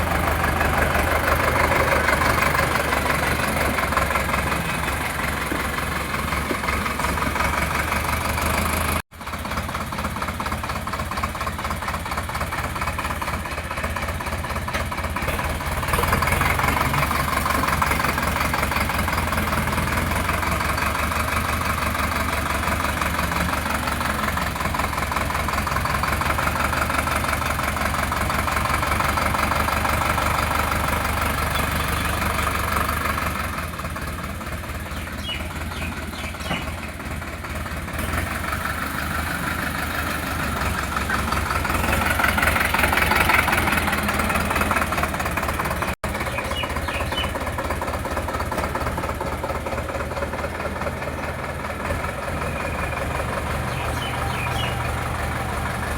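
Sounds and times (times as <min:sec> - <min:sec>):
tractor diesel engine clattering: 0:00.0 - 0:55.9.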